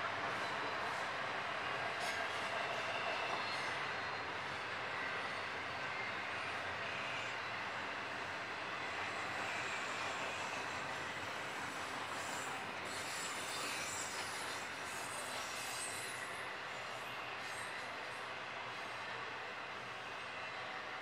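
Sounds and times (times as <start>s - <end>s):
steel train wheels on rails: 0.0s - 21.0s.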